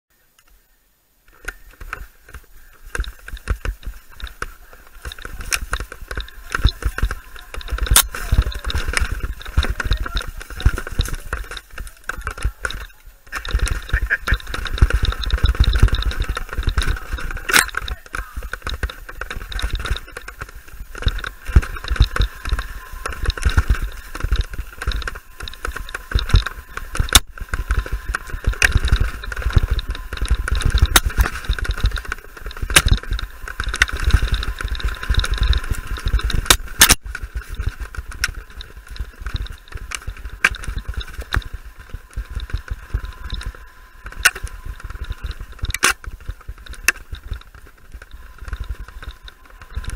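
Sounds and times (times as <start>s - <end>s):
bike rattling over rough ground: 1.2s - 49.9s
wind buffeting camera: 1.3s - 49.9s.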